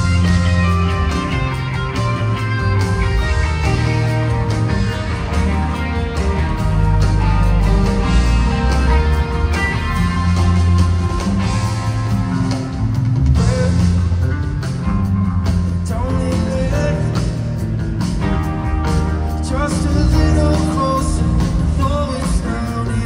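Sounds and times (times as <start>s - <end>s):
bass guitar: 0.0s - 23.0s
drum kit: 0.0s - 23.0s
electric guitar: 0.0s - 23.0s
keyboards: 0.0s - 23.0s.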